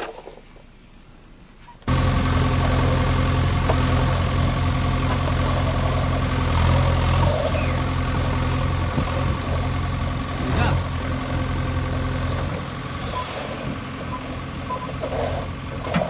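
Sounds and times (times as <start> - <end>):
vehicle engine idling: 0.4 - 16.0.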